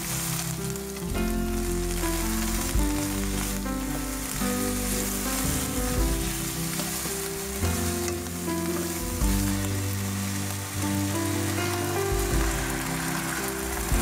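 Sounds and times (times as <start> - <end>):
soft background music: 0.0 - 14.0
vegetables sizzling in a pan: 0.0 - 14.0.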